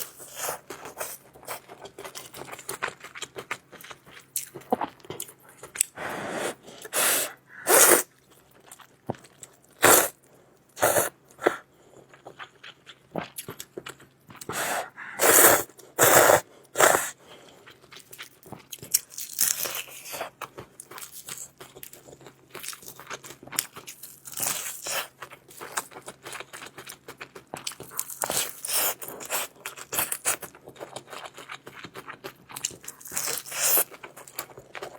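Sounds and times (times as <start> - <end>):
chewing and crunching: 0.0 - 34.9.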